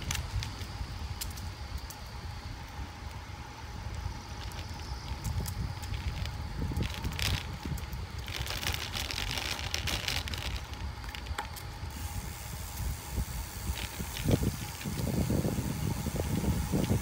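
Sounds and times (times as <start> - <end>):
bicycle tyre rumble: 0.0 - 17.0
wind buffeting microphone: 0.0 - 17.0.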